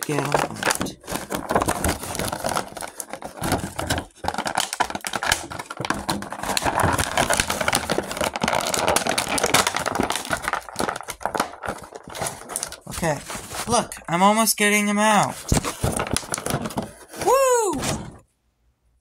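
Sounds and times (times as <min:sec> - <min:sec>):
packaging crinkling and rustling: 0:00.0 - 0:14.4, 0:15.2 - 0:18.2.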